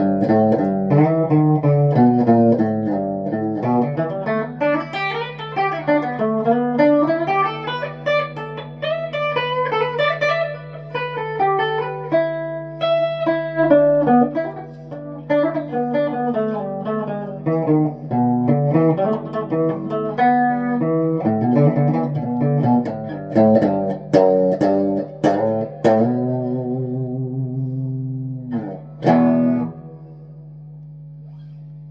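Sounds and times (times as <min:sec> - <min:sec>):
electric guitar lead lines: 0:00.0 - 0:31.7.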